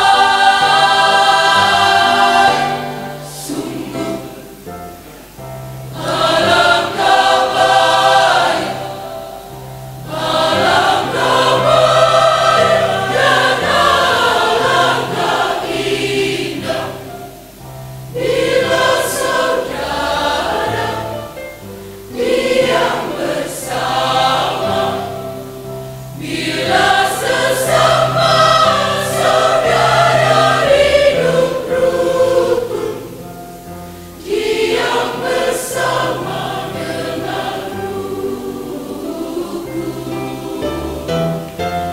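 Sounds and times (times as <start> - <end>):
women's choir singing a hymn: 0.0 - 41.9.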